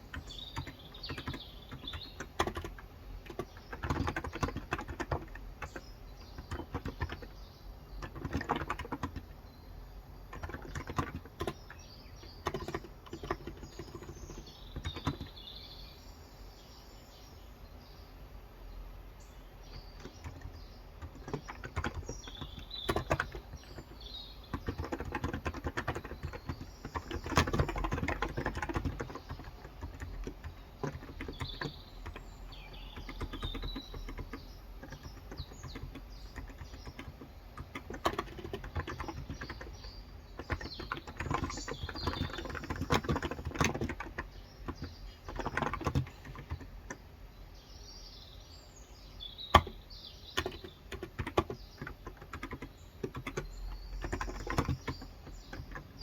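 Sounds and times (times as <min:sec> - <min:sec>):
typing on a keyboard: 0:00.0 - 0:09.5, 0:10.1 - 0:15.5, 0:19.7 - 0:47.1, 0:49.5 - 0:56.0
birds chirping: 0:00.0 - 0:56.0.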